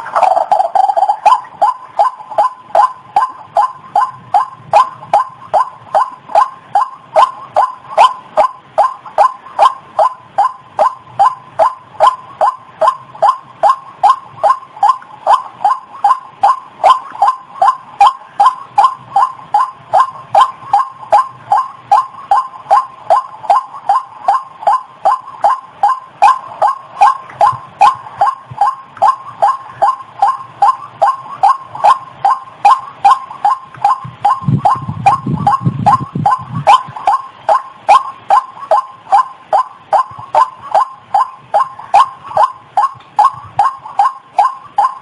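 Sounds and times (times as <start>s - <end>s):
waterhen calls: 0.0s - 45.0s.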